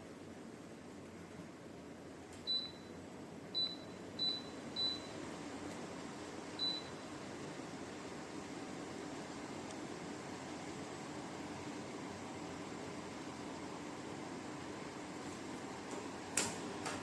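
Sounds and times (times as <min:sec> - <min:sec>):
fan airflow hiss: 0:00.0 - 0:17.0.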